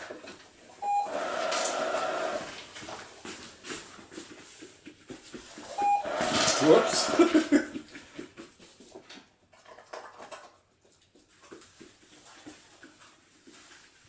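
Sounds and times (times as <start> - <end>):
dog moving on foam mats: 2.4 - 14.0.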